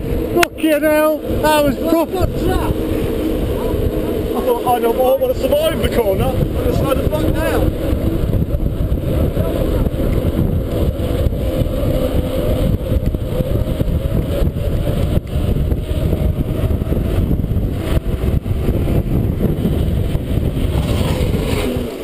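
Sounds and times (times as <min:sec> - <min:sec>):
bike tyre noise on road: 0:00.0 - 0:22.0
wind buffeting microphone: 0:00.0 - 0:22.0.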